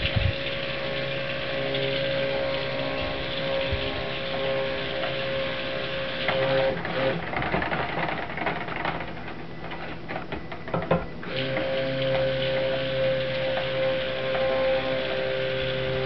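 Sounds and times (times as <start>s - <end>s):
stick blender motor running: 0.0s - 10.1s, 11.2s - 16.0s.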